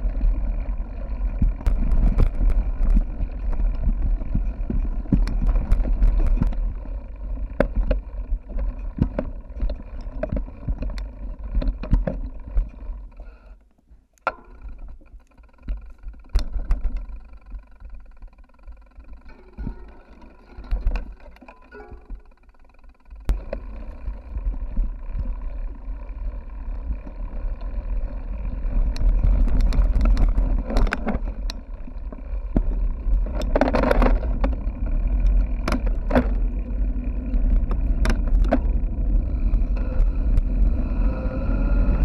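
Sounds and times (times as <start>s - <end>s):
bike knocks and rattles: 0.0s - 13.3s, 14.2s - 42.0s
wind and vibration rumble: 0.0s - 42.0s.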